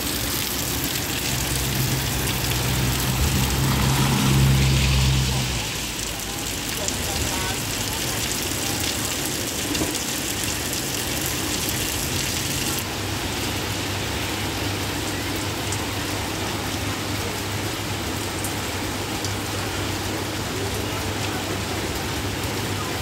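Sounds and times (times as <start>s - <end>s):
rain on pavement: 0.0s - 23.0s.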